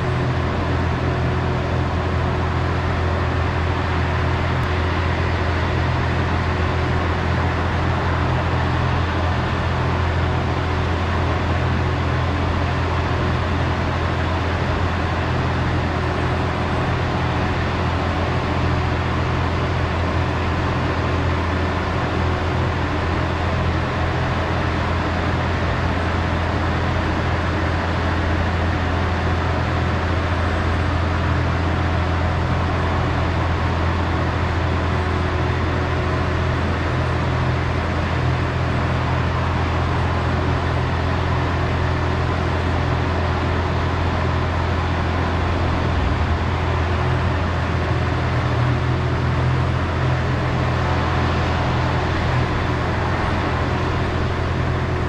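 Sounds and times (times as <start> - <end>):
trolleybus low drone: 0.0 - 55.0.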